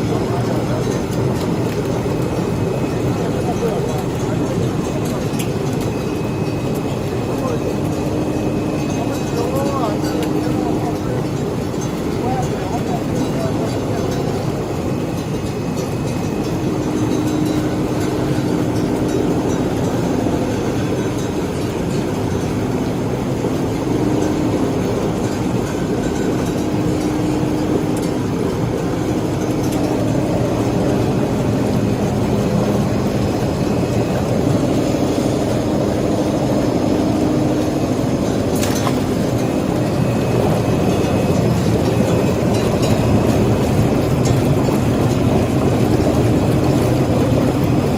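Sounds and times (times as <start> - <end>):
processing machinery running: 0.0 - 47.9.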